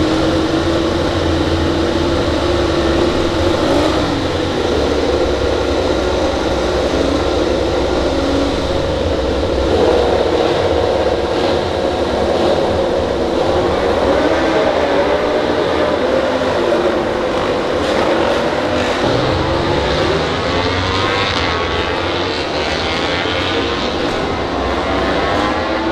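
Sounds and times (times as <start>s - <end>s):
racing motorcycle engines: 0.0s - 25.9s.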